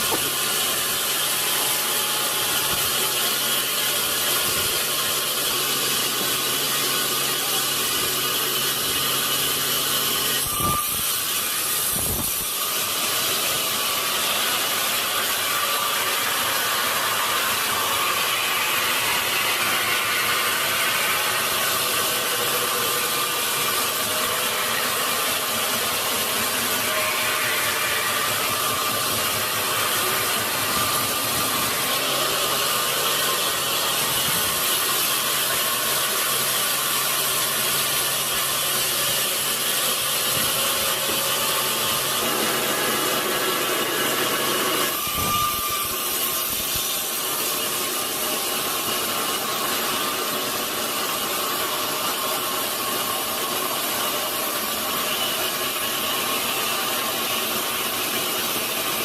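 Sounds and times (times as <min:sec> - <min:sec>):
sawmill saw cutting log: 0:00.0 - 0:59.0.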